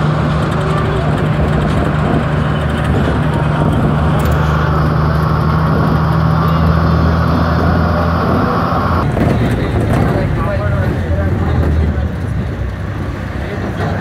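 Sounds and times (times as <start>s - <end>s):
bus engine running: 0.0s - 14.0s
road noise: 0.0s - 14.0s.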